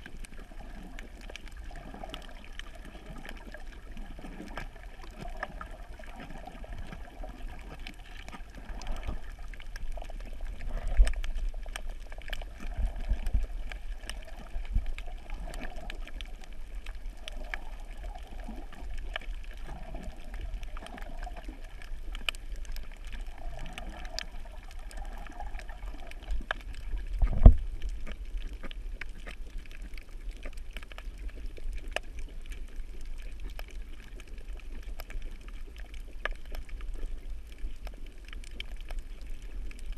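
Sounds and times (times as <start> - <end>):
muffled underwater rumble: 0.0 - 39.9
faint scattered clicks: 0.2 - 24.3, 24.9 - 39.9.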